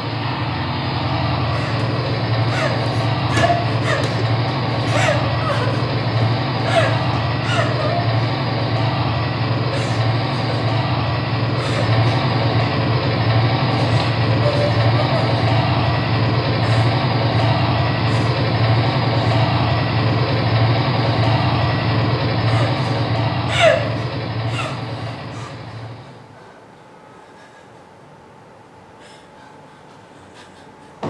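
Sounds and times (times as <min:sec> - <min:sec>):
engine-like low rumble with hiss: 0:00.0 - 0:31.0.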